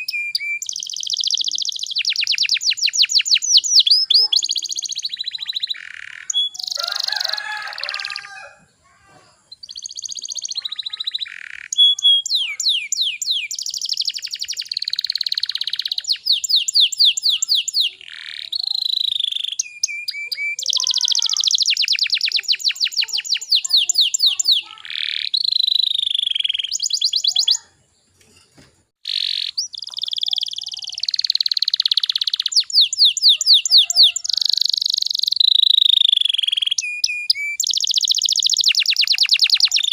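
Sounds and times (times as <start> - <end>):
canary singing trills: 0.0 - 8.8, 9.4 - 28.2, 29.0 - 39.9.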